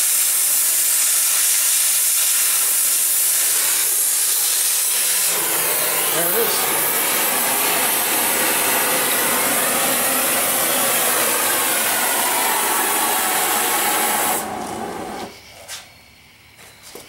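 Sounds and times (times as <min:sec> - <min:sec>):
cutting torch hissing: 0:00.0 - 0:15.4.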